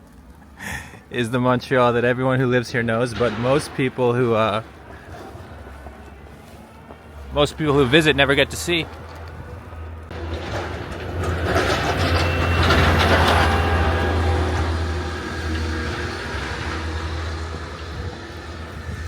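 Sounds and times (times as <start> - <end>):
truck engine drone: 0.0 - 19.0
rushing noise of passing truck: 2.1 - 19.0.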